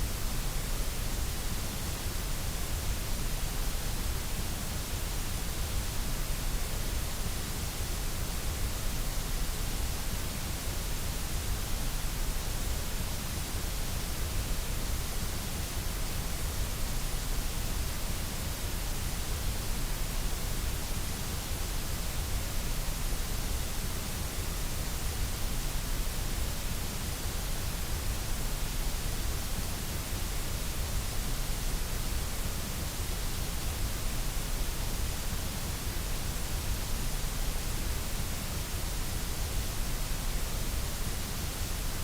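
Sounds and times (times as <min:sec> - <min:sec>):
white noise hiss: 0:00.0 - 0:42.0.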